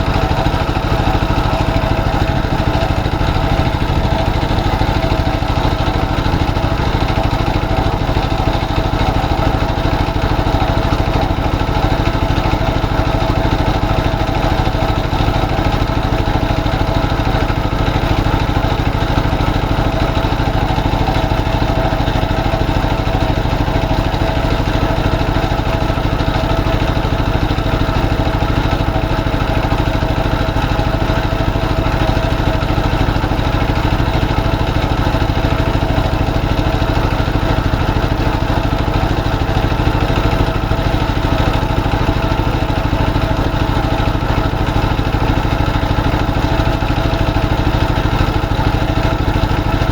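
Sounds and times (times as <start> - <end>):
boat engine running: 0.0 - 49.9.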